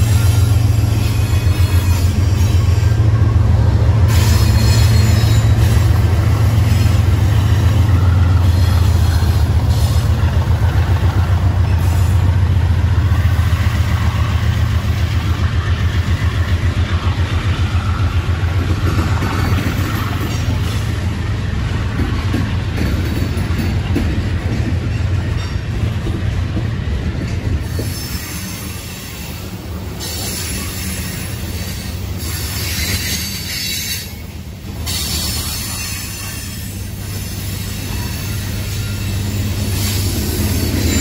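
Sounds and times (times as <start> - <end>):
diesel locomotive engine drone: 0.0 - 41.0.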